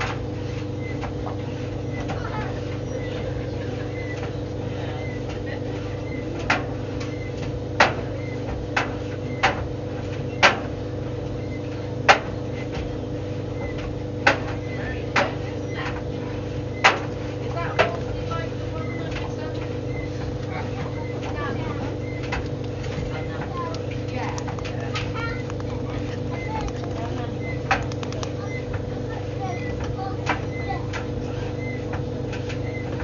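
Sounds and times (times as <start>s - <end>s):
tumble dryer humming: 0.0s - 33.0s.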